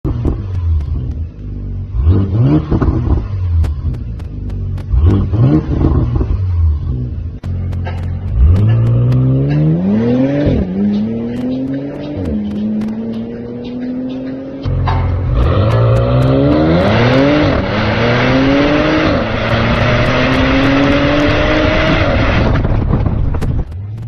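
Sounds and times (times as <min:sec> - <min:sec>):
sharp exhaust pops: 0:00.0 - 0:06.4, 0:07.3 - 0:09.8, 0:10.4 - 0:17.2, 0:19.2 - 0:24.0
car engine idling and revving: 0:00.0 - 0:24.0.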